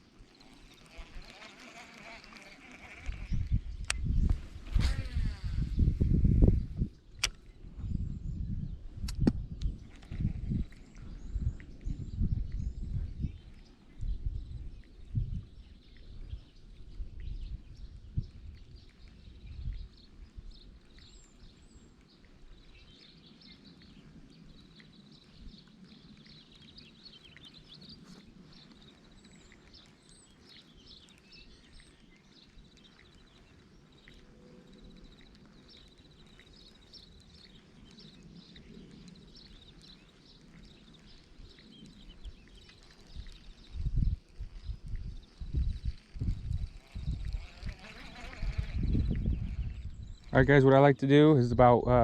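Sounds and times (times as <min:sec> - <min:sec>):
birds chirping: 0:00.0 - 0:08.6, 0:09.5 - 0:52.0
outdoor ambience: 0:00.0 - 0:51.9.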